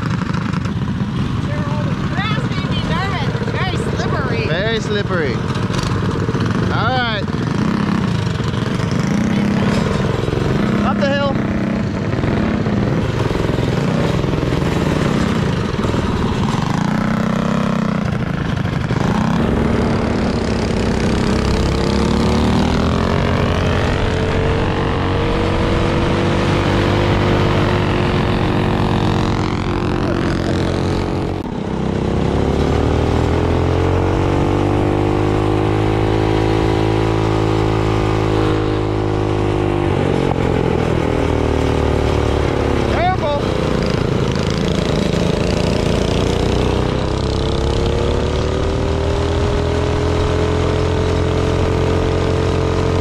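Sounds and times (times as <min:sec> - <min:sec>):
minibike engine revving: 0:00.0 - 0:53.0.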